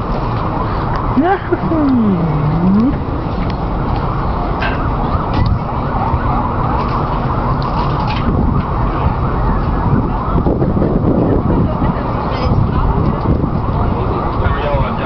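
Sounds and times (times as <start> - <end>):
faint emergency siren wailing: 0.0 - 14.7
distant city street rush: 0.0 - 15.0.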